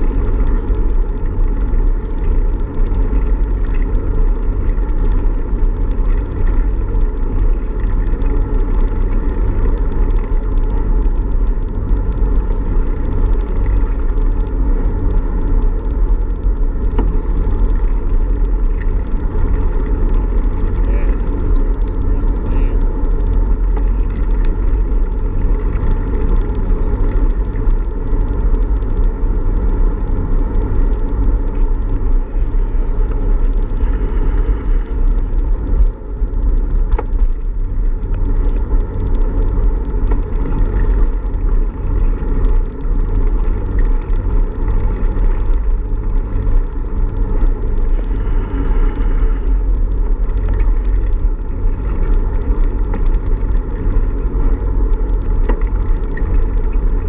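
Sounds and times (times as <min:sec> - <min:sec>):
tyre noise on asphalt: 0:00.0 - 0:57.0.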